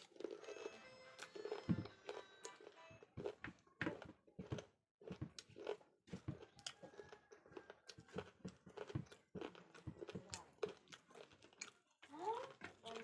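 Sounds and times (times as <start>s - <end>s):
chewing with crunches: 0.0s - 13.0s.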